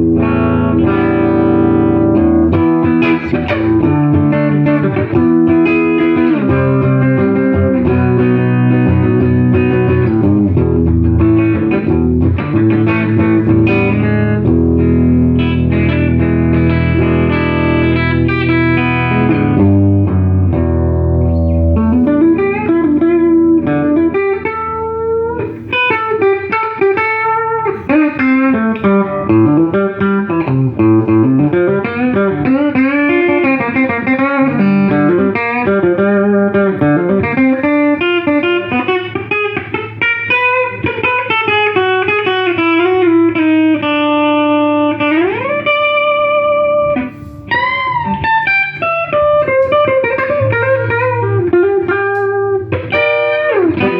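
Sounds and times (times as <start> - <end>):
electric guitar playing: 0.0 - 53.9.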